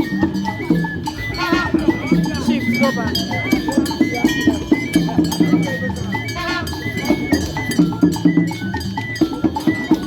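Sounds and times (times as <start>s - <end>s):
drums: 0.0s - 10.0s
high melody line: 0.0s - 10.0s.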